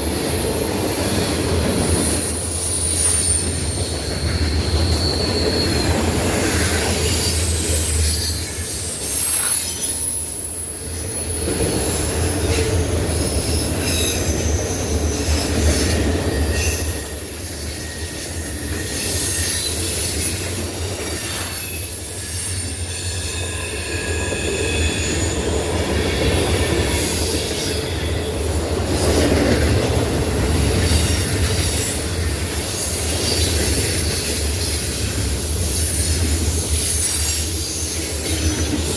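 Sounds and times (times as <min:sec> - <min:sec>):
train cars rumbling: 0:00.0 - 0:38.9
train wheels squealing: 0:00.0 - 0:38.9.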